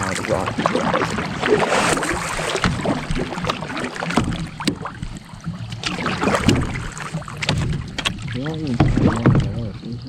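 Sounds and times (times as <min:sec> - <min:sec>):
water splashing around kayak: 0:00.0 - 0:10.0.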